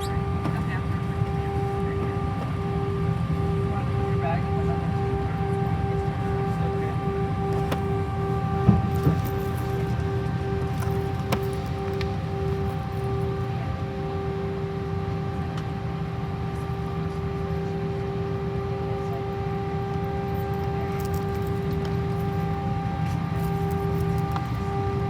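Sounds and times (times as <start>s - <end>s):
constant tones: 0.0s - 25.0s
jet engine and airflow drone: 0.0s - 25.0s.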